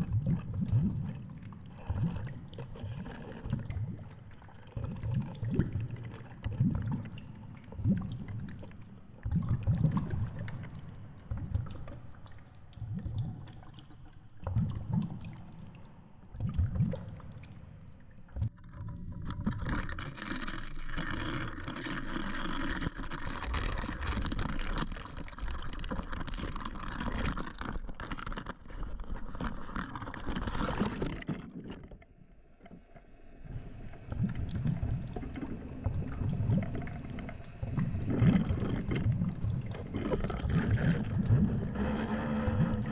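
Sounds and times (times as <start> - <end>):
underwater surges and thuds: 0.0 - 42.9.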